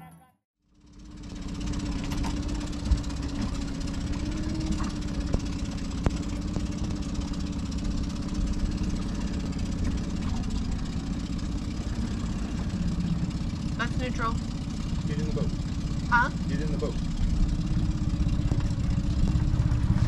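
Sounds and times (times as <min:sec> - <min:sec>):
boat engine idling: 0:00.6 - 0:20.0.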